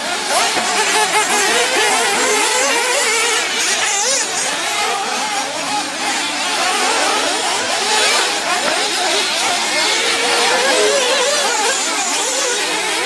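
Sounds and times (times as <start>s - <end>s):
rc buggy engines racing: 0.0s - 13.0s.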